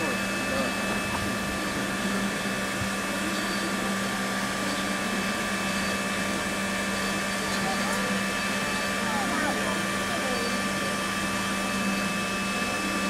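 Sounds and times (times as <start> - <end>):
constant hum: 0.0 - 13.0
steam locomotive hissing: 0.0 - 13.0.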